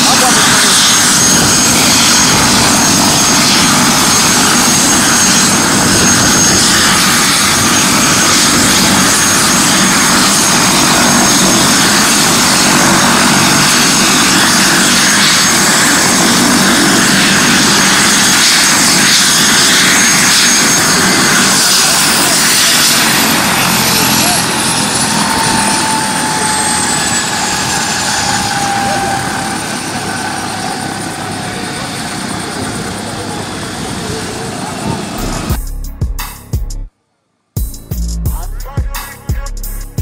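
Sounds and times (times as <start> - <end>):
helicopter rotor and engine: 0.0 - 35.6
thin high whine: 0.0 - 35.6.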